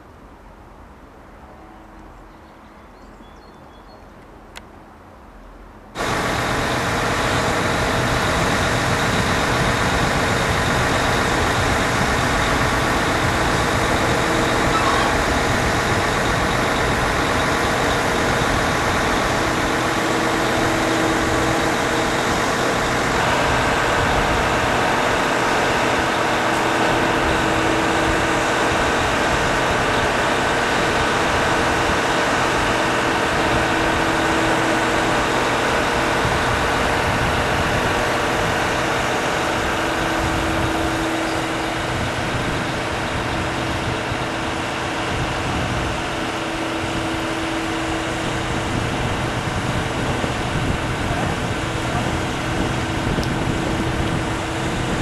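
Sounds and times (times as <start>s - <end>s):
machinery drone with hums and whines: 5.4s - 55.0s.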